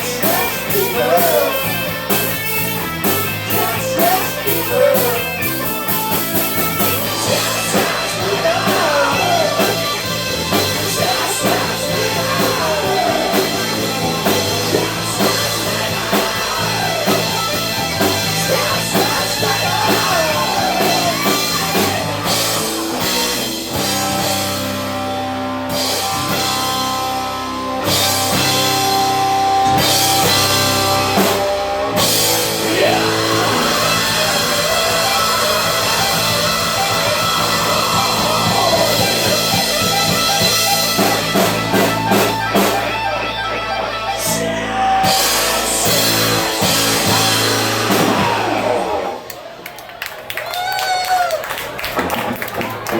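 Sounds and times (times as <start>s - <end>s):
drum kit: 0.0s - 49.2s
live rock band playing: 0.0s - 49.6s, 50.2s - 52.9s
electric guitar: 0.0s - 49.7s, 50.4s - 52.9s.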